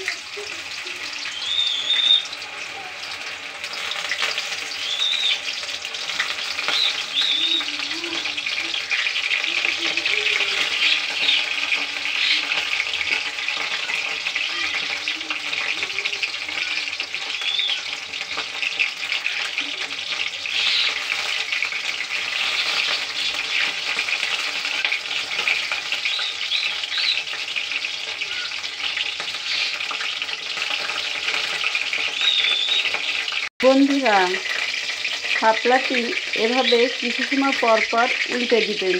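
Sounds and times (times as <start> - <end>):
fritters deep-frying in oil: 0.0 - 38.9.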